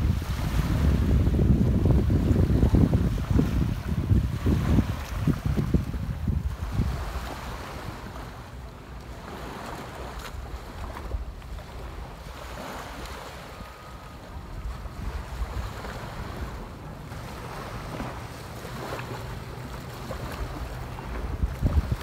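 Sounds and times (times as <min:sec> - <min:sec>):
surf washing onto sandy beach: 0:00.0 - 0:22.0
wind buffeting microphone: 0:00.0 - 0:22.0.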